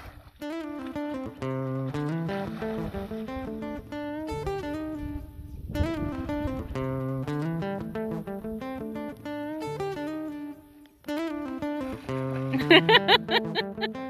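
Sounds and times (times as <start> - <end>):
plucked guitar melody: 0.0 - 14.0.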